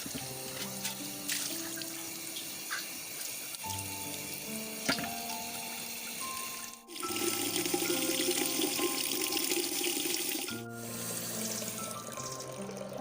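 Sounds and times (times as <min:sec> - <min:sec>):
soft background music: 0:00.0 - 0:13.0
water running and splashing: 0:00.0 - 0:13.0.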